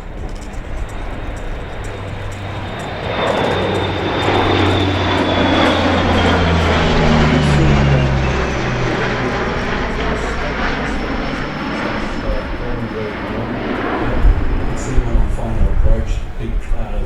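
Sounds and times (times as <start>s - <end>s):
turboprop aircraft droning and whining: 0.0s - 17.0s.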